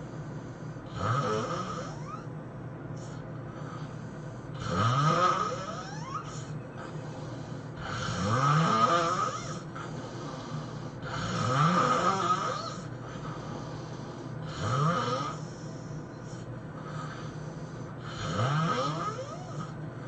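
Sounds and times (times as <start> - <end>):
man snoring: 0.0 - 2.3, 3.0 - 19.8
quiet breathing: 0.0 - 20.0.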